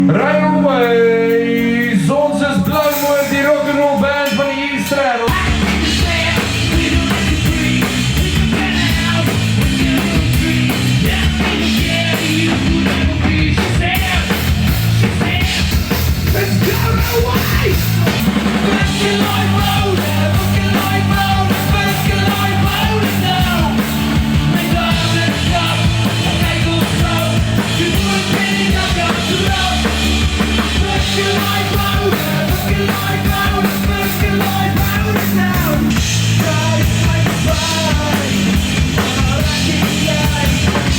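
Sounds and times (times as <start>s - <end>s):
drum kit: 0.0s - 40.9s
rock and roll band playing: 0.0s - 40.9s.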